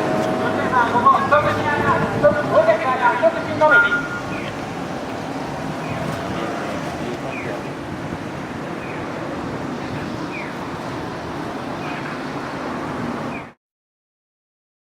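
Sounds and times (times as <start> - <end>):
people in the street: 0.0 - 13.6
traffic: 0.0 - 13.6.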